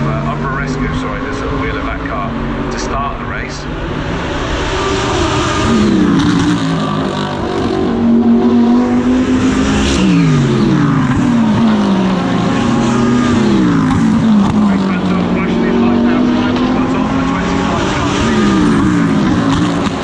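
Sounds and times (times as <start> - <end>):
race car engine: 0.0 - 20.0.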